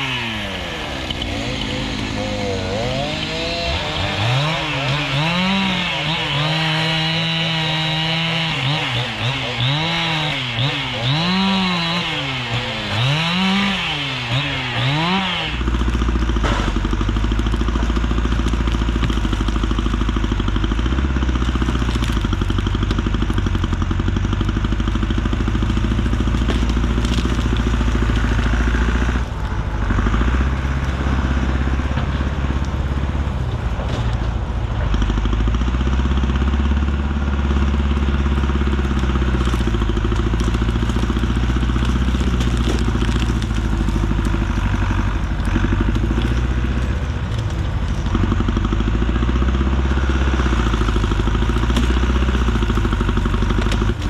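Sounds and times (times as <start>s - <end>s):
chainsaw revving: 0.0s - 33.2s, 34.9s - 54.0s
large engine deep rumble: 0.0s - 54.0s.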